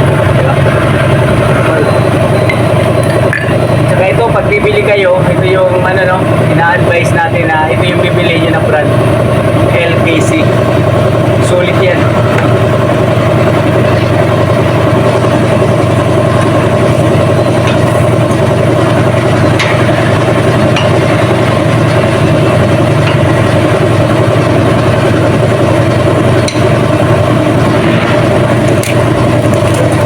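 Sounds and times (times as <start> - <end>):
engine droning: 0.0 - 30.0.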